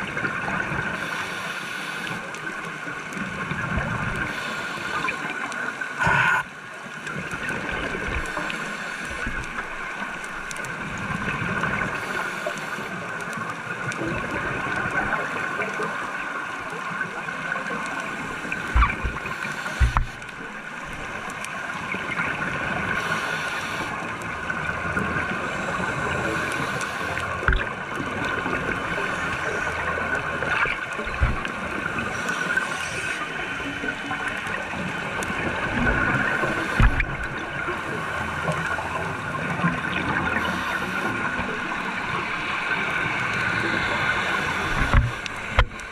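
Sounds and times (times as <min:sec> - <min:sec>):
underwater hum and hiss: 0:00.0 - 0:45.9.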